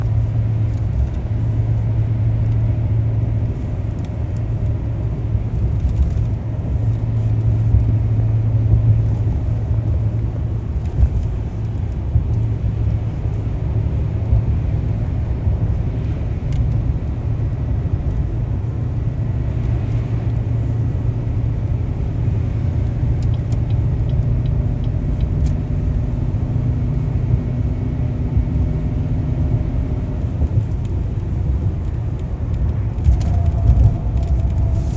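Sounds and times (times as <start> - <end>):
car engine and tyre rumble: 0.0 - 34.9.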